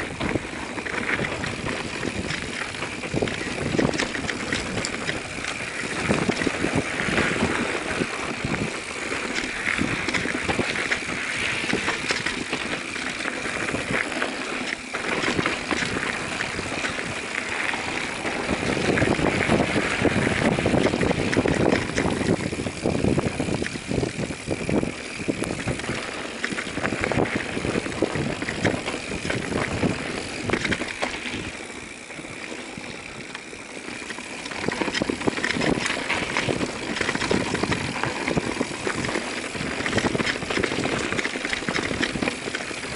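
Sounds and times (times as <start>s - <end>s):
bike rattling and knocking: 0.0s - 42.9s
bike tyres rolling over dirt: 0.0s - 42.9s.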